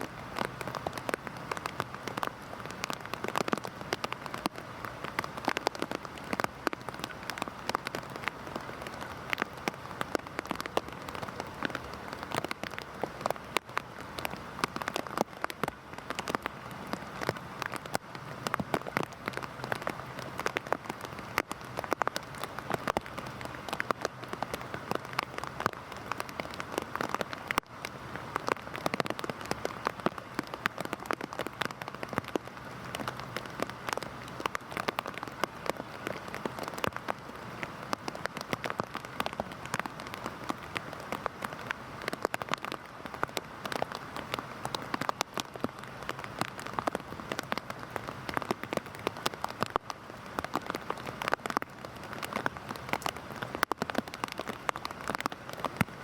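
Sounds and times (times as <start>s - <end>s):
heavy rain hiss: 0.0s - 56.0s
raindrops pattering: 0.0s - 56.0s.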